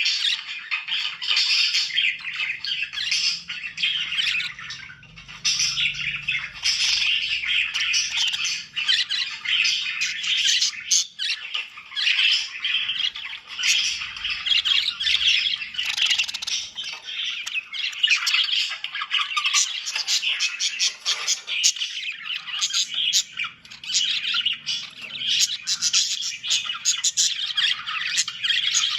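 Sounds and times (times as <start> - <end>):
budgerigars chattering: 0.0 - 28.9
harsh squawks: 1.7 - 28.9.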